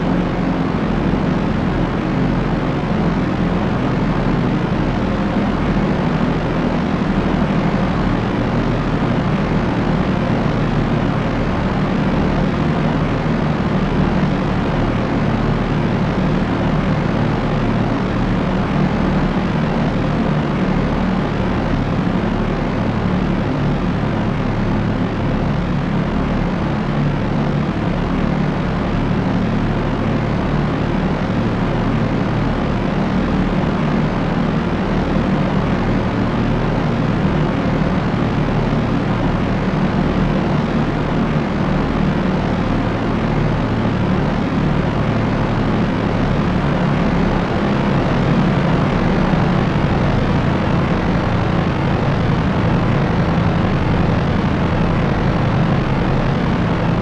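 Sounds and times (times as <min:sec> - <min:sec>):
propeller aircraft droning: 0:00.0 - 0:57.0.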